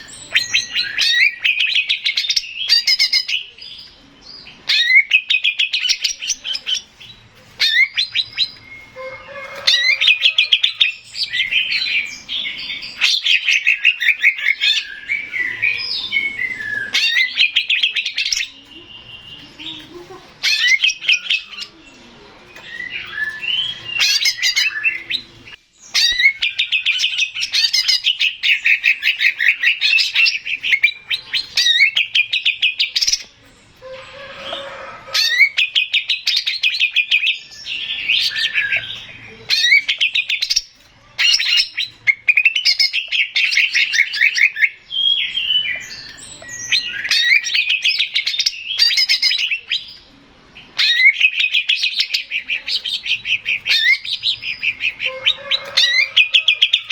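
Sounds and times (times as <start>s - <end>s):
bird singing chattering notes: 0.0s - 33.8s, 35.2s - 56.9s.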